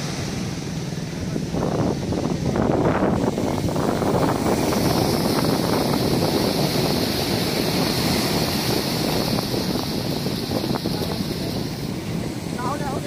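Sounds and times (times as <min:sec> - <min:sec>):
sea rushing: 0:00.0 - 0:13.0
wind buffeting the microphone: 0:00.0 - 0:13.0.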